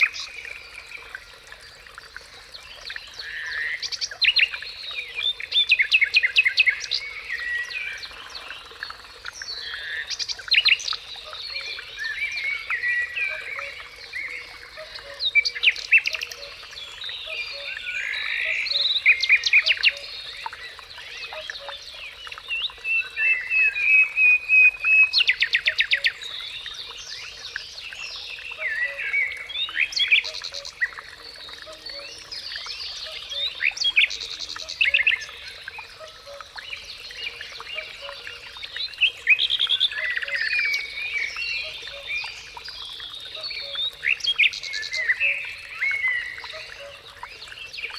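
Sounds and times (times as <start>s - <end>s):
songbirds singing and calling: 0.0s - 47.9s.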